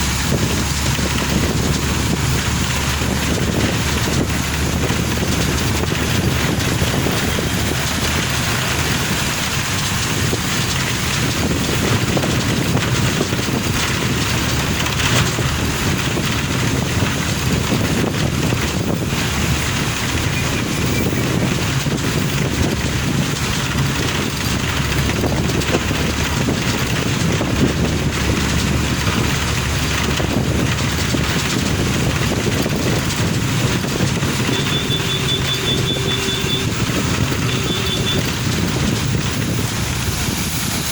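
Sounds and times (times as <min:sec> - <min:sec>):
car driving on wet road: 0:00.0 - 0:40.9
wind noise: 0:00.0 - 0:40.9.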